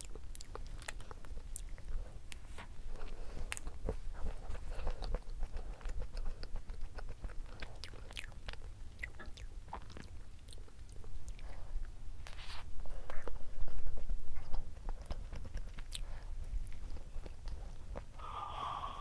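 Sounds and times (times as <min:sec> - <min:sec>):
chewing soft cake: 0:00.0 - 0:18.8.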